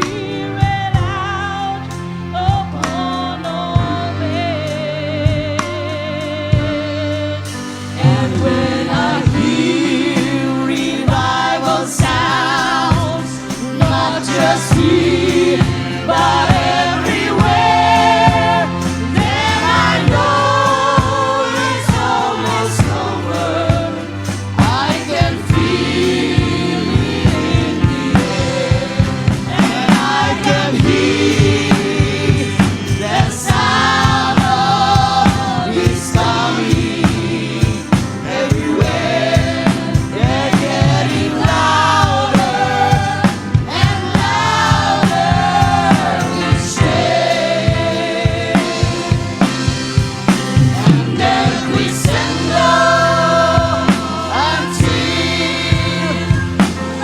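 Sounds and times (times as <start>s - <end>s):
band accompaniment: 0.0s - 57.0s
choir singing gospel: 0.0s - 57.0s
steady drum beat: 0.0s - 57.0s.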